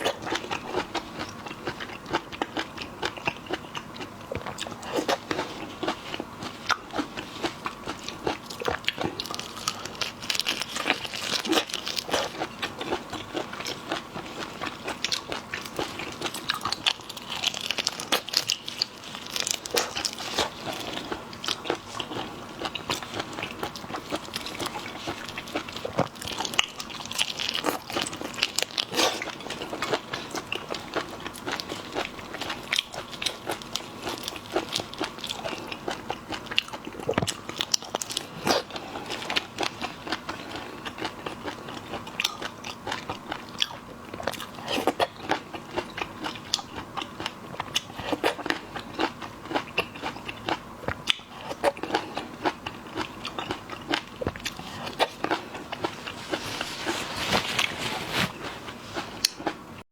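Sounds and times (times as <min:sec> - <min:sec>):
chewing crunchy shrimp: 0:00.0 - 0:59.8.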